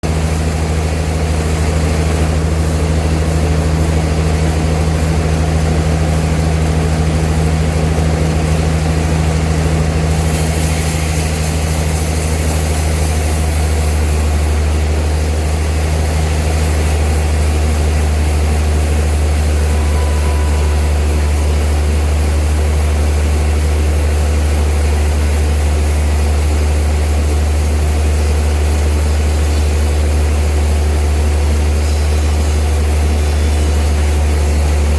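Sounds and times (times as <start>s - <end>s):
sawmill machinery humming: 0.0s - 34.9s.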